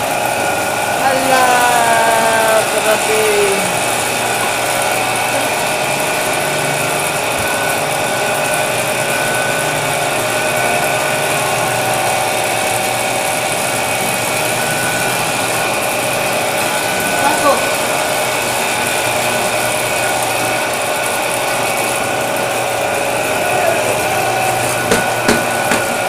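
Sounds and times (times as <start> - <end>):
dough roller motor hum: 0.0 - 26.0.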